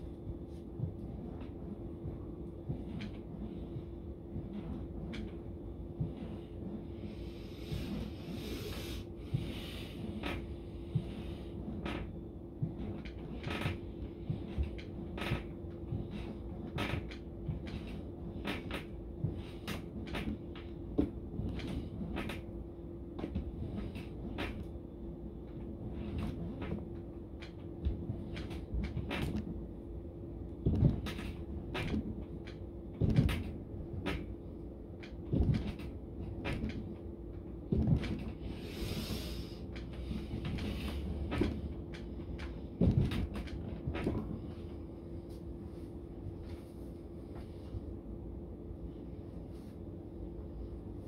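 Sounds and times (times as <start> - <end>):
steady hum: 0.0 - 51.0.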